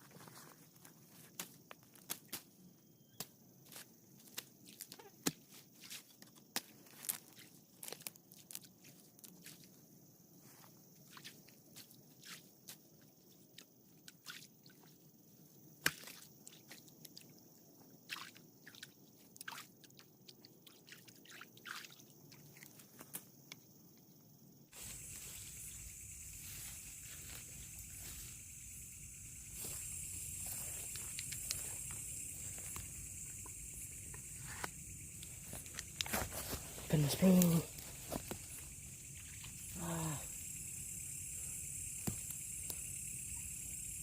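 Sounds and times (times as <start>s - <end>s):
night insects chirring: 0.0s - 44.0s.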